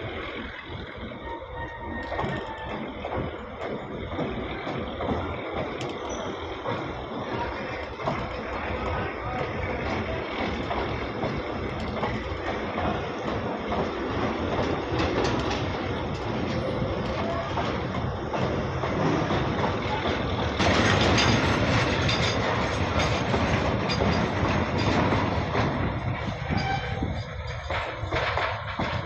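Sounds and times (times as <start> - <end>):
train wheels clattering: 0.0 - 29.0.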